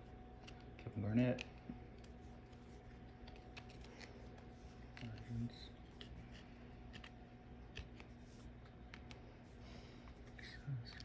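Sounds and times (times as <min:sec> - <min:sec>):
low steady hum: 0:00.0 - 0:11.0
trading cards rustling and clicking: 0:00.4 - 0:09.4.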